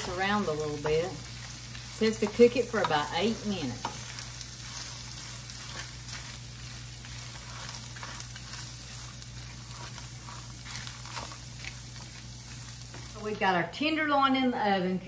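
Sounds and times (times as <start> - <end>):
wooden spoon scraping a pan: 0.0 - 13.6
vegetables sizzling in oil: 0.0 - 13.8.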